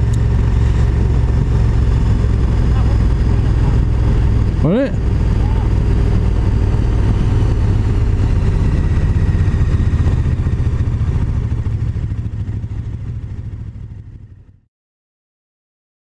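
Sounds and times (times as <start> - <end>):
motorcycle engine running: 0.0 - 14.7.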